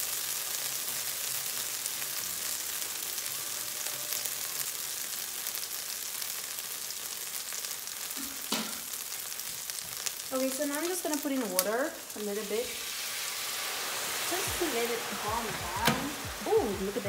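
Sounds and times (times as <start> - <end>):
garlic sizzling in a pan: 0.0 - 17.0.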